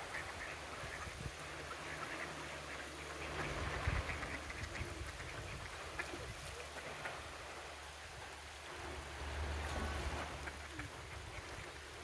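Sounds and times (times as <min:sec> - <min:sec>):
ducks quacking faintly: 0:00.0 - 0:12.0
stream rushing: 0:00.0 - 0:12.0.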